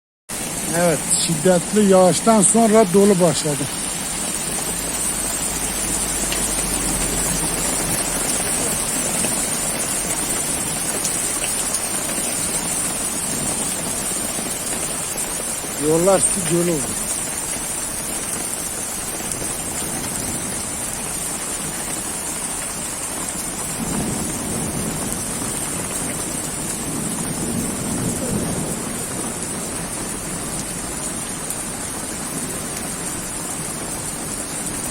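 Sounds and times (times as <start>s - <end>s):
heavy rain hiss: 0.4s - 34.9s
hailstones ticking: 0.6s - 34.9s.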